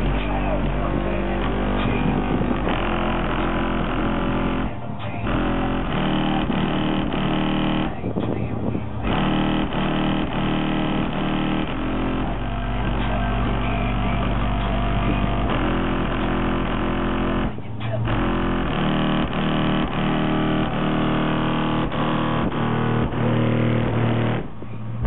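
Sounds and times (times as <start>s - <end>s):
loud music with deep bass: 0.0s - 25.0s.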